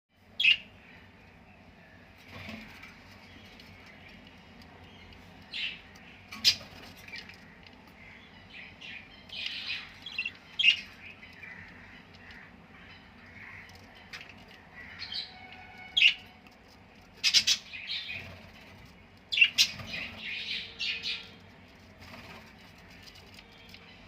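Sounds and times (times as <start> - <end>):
budgerigar chicks chirping: 0.4 - 21.6.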